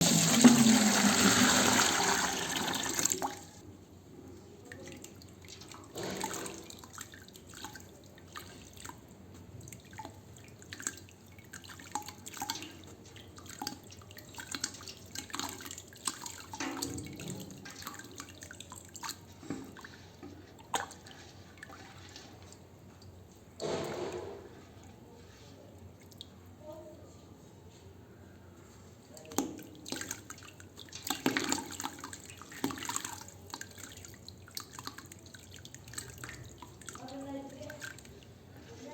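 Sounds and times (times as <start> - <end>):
small drips and plops: 2.6 - 26.8, 28.4 - 38.9.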